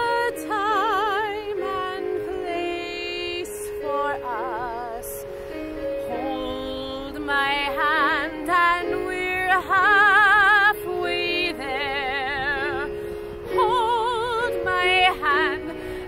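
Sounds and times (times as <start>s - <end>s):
sustained recorded accompaniment: 0.0s - 16.0s
woman singing a slow ballad: 0.0s - 16.0s.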